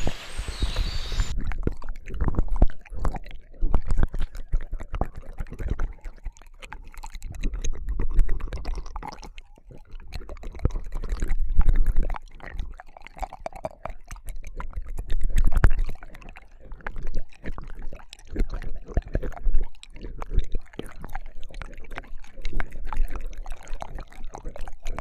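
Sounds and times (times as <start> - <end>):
wet mouth clicks and squishes: 0.0 - 25.0.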